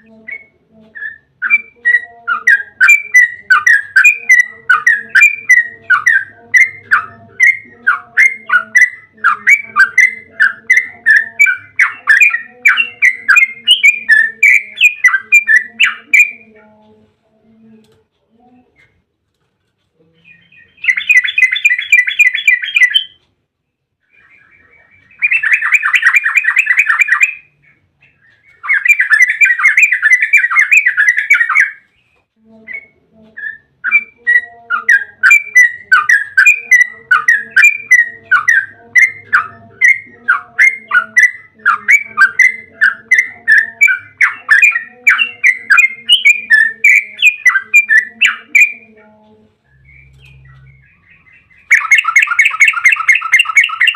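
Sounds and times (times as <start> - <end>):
bulbul trilling and chattering: 0.0 - 17.0, 20.0 - 23.2, 24.0 - 53.9.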